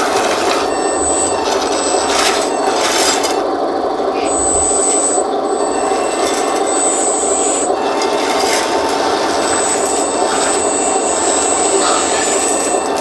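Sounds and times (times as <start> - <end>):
electric hydraulic pump and motors: 0.0 - 13.0
high thin whine: 0.0 - 13.0.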